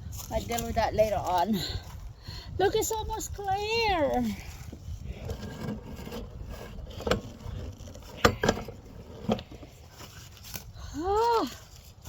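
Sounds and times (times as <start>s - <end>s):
branches rustling: 0.0s - 12.0s.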